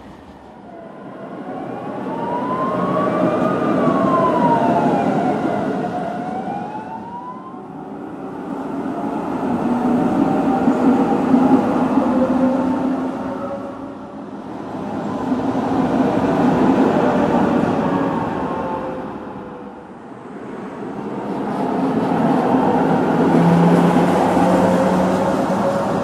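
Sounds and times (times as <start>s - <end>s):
tram rumbling past: 0.0s - 26.0s.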